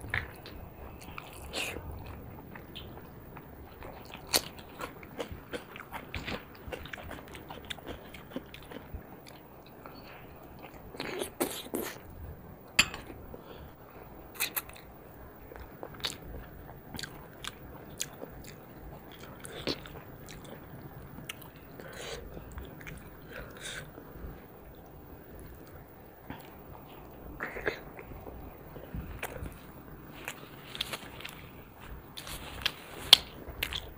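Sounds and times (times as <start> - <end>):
wet chewing: 0.1 - 12.0, 15.5 - 24.0, 25.5 - 33.9.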